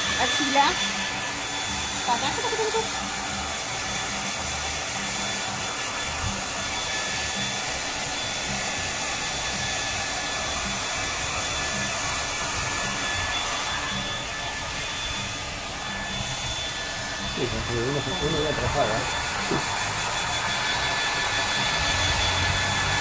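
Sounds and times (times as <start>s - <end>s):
hair dryer running: 0.0s - 23.0s.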